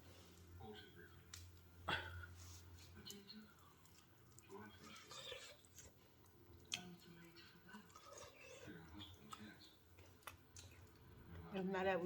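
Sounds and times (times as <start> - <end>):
person faintly chewing: 0.0 - 11.5.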